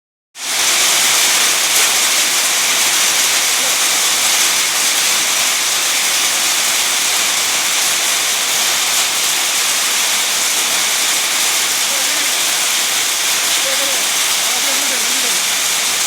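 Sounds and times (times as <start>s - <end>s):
heavy rain and hail: 0.4s - 16.0s.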